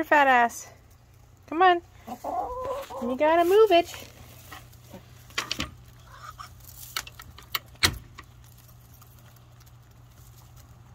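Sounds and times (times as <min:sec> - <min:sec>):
hens pecking at feed: 0:00.8 - 0:10.9.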